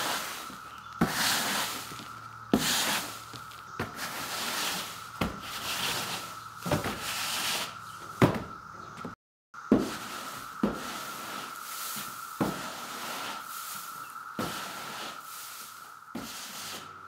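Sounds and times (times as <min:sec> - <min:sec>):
broom sweeping hay on wood: 0:00.0 - 0:07.8, 0:09.6 - 0:17.0.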